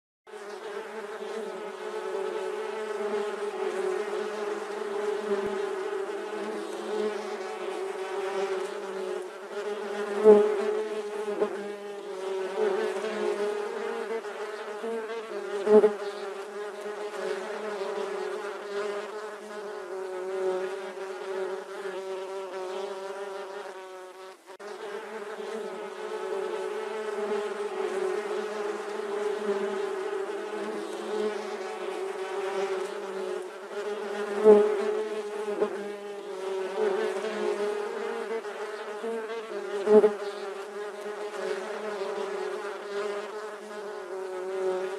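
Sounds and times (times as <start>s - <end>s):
bee buzzing: 0.3s - 44.9s.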